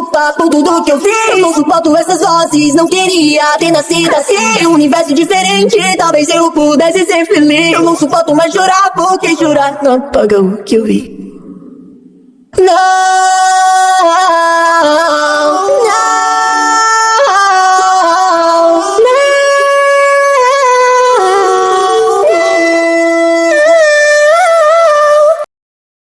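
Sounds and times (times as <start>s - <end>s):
wordless singing: 0.0s - 10.1s, 11.3s - 25.5s.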